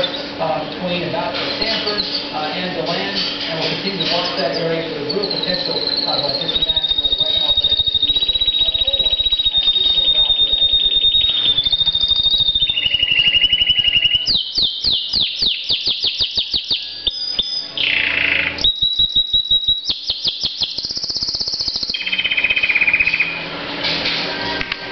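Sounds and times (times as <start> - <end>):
canary singing trills: 1.5 - 2.4, 3.8 - 23.4.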